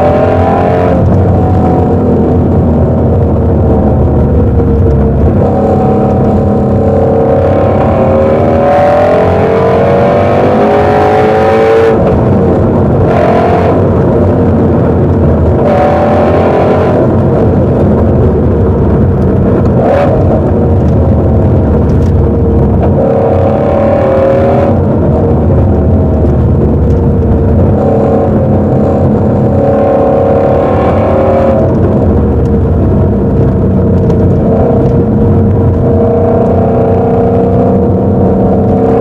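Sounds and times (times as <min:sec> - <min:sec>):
car engine accelerating: 0:00.0 - 0:39.0.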